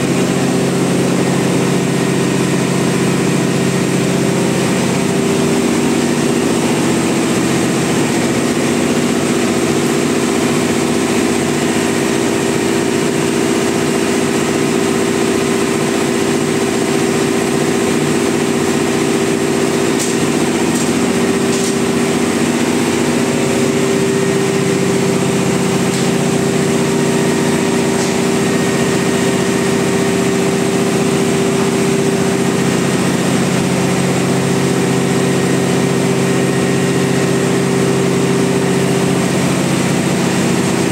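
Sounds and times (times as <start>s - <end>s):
diesel engine drone: 0.0s - 40.9s.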